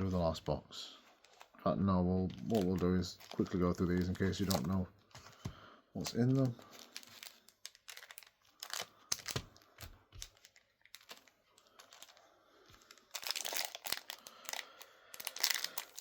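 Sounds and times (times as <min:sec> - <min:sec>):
card packaging crinkling: 0:00.3 - 0:01.6, 0:02.2 - 0:16.0.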